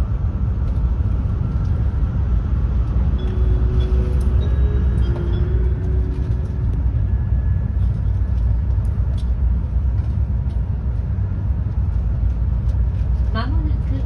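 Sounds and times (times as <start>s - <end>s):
train running low rumble: 0.0s - 14.0s.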